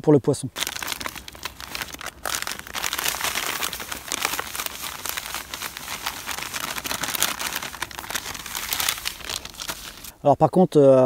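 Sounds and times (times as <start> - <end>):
plastic bag crinkling: 0.6 - 10.1.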